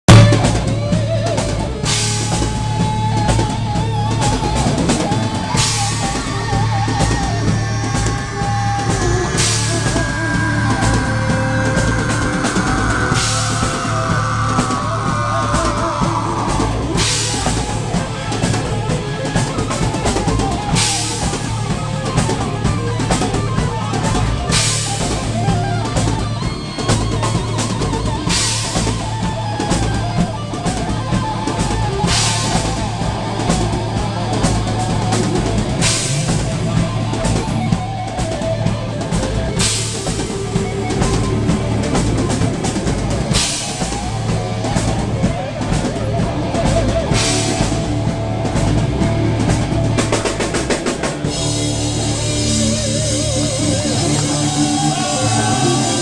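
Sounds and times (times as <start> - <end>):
heavy metal band playing: 0.0 - 56.0
bending lead guitar line: 0.1 - 56.0.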